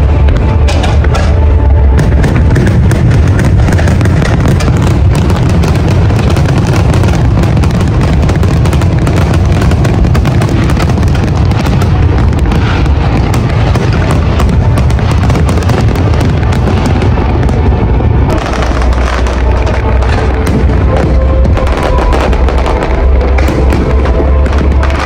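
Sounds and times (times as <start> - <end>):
firework booms: 0.0 - 25.0
firework crackling bursts: 1.9 - 25.0.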